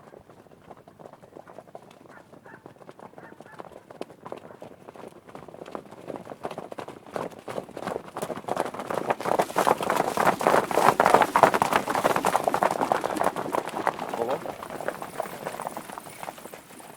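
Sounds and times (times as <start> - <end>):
horses galloping: 0.0 - 16.9.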